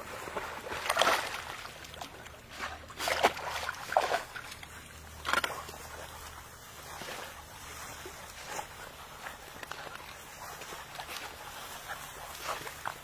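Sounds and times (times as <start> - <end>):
dog swimming in splashing water: 0.0 - 13.0.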